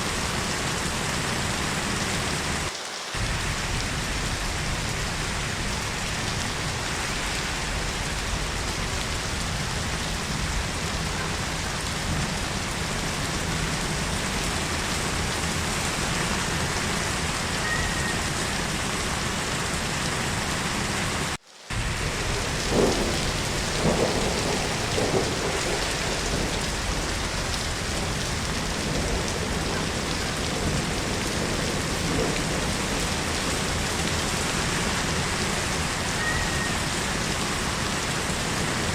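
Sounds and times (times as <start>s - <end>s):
heavy rain falling: 0.0s - 38.9s
thunder rumbles: 0.1s - 20.0s, 21.7s - 38.9s.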